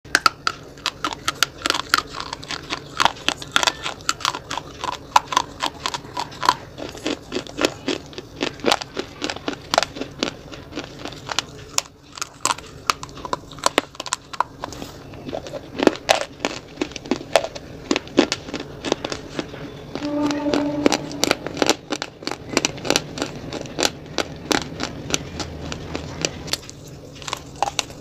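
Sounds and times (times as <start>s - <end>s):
pencils crunched between teeth: 0.1s - 20.8s, 21.4s - 28.0s
chewing: 0.1s - 28.0s.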